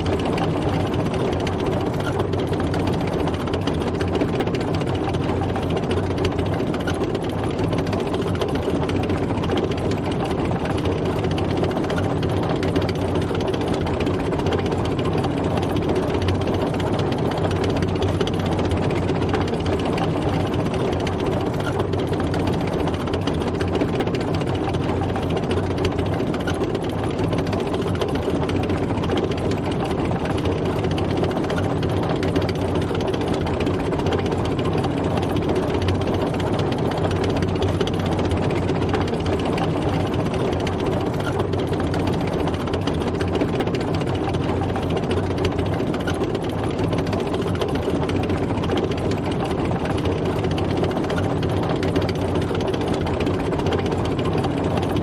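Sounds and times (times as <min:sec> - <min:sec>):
tank engine running: 0:00.0 - 0:55.0.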